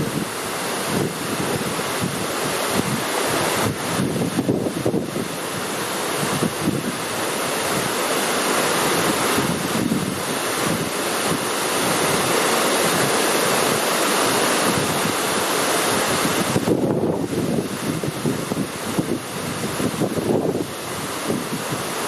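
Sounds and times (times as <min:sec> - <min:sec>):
waterfall rushing: 0:00.0 - 0:22.0
wind buffeting microphone: 0:00.0 - 0:22.0.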